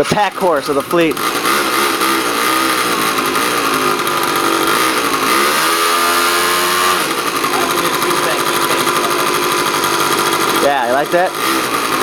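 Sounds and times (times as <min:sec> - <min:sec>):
small motorbike engine revving: 0:00.0 - 0:12.0.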